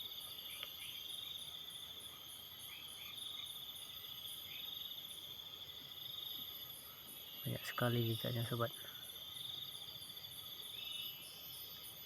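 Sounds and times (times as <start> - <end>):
high cricket chirps: 0.0 - 12.0
insects trilling: 0.0 - 12.0.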